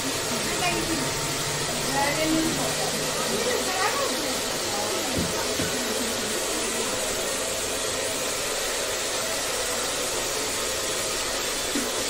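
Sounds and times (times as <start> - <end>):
handheld fan whirring: 0.0 - 12.0.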